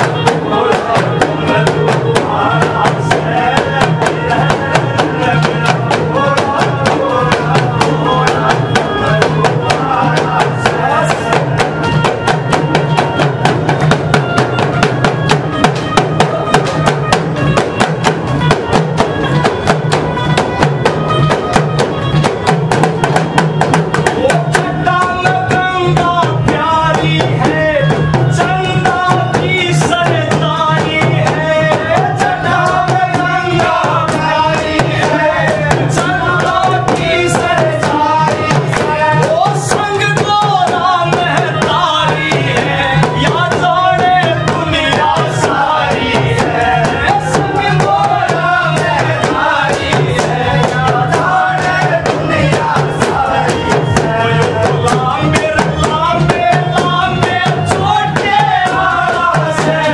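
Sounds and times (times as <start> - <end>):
devotional melody: 0.0 - 59.9
steady drumming: 0.0 - 59.9.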